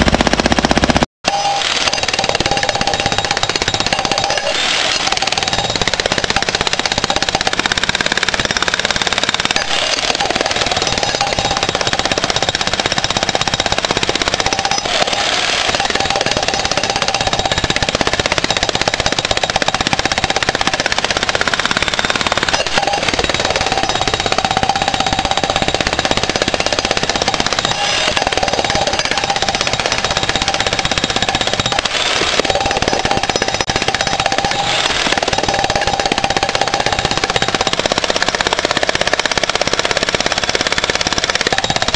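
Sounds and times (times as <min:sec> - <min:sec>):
jackhammer hammering concrete: 0:00.0 - 0:41.9.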